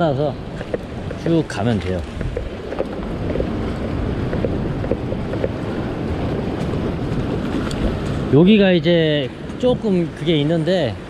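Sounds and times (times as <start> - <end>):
sea waves washing against rock: 0.0 - 11.0
wind noise on microphone: 0.0 - 11.0.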